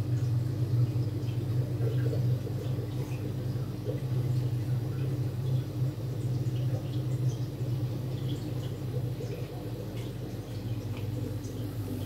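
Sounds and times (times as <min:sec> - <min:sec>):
low electric hum: 0:00.0 - 0:12.0
water bubbling and dripping: 0:00.0 - 0:12.0.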